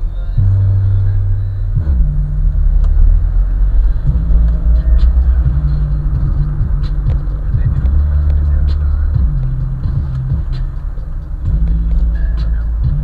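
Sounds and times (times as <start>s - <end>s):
bass-heavy hip-hop on car stereo: 0.0s - 13.0s.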